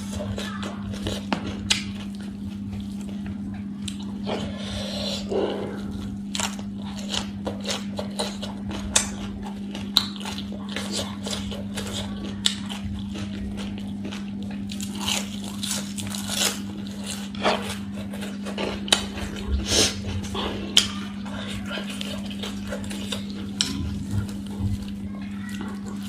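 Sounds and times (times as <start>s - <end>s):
chewing and crunching food: 0.0s - 26.0s
steady low hum: 0.0s - 26.0s.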